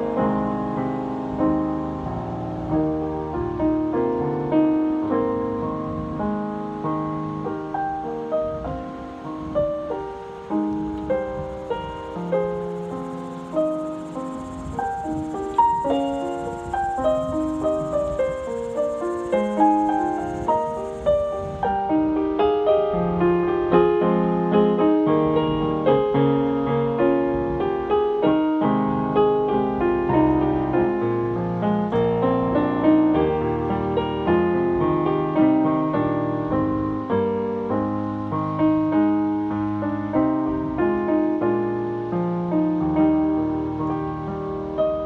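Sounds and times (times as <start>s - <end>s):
keyboard piano piece: 0.0s - 45.0s.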